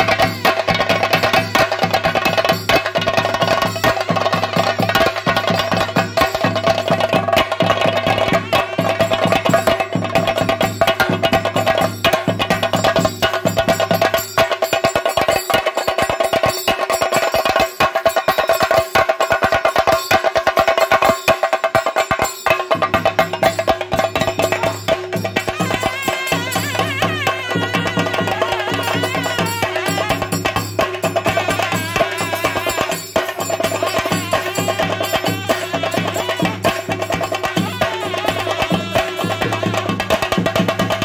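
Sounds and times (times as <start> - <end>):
fast drumming: 0.0 - 41.0.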